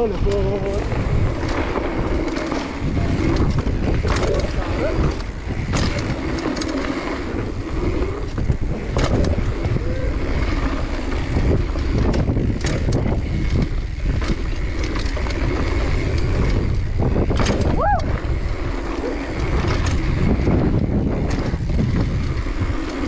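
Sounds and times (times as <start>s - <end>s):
bike knocking and rattling: 0.0s - 23.0s
bike tyres rumbling on dirt: 0.0s - 23.0s
wind rushing over microphone: 0.0s - 23.0s.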